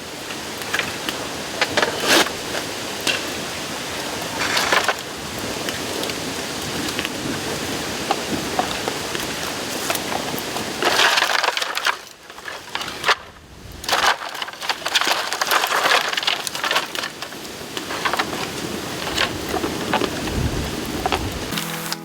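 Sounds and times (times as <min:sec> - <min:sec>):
bamboo crackling and snapping: 0:00.0 - 0:21.6.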